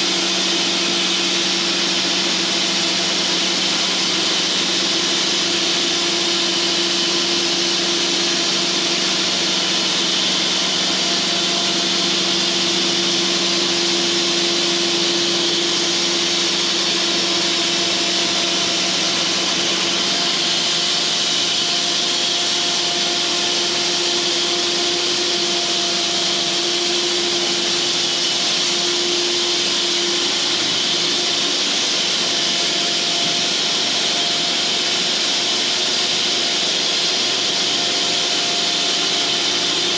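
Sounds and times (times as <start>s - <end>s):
bandsaw cutting through log: 0.0s - 39.9s
sawmill hum: 0.0s - 39.9s.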